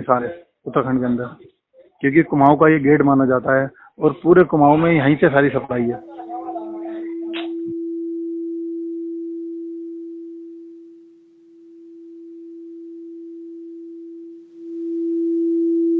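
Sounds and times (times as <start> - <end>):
steady pure tone: 2.2 - 15.9.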